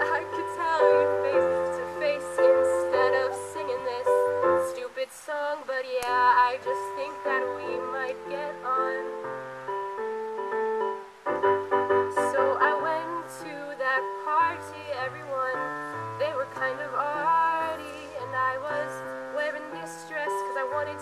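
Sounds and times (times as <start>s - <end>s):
keyboard piano chords: 0.0s - 5.0s, 6.0s - 21.0s
woman singing: 0.0s - 9.3s, 12.0s - 21.0s.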